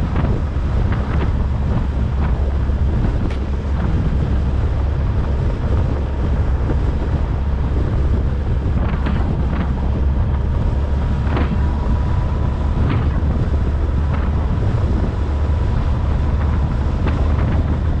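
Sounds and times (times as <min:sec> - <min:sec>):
vehicle rumble and tyres on road: 0:00.0 - 0:18.0
wind buffeting microphone: 0:00.0 - 0:18.0.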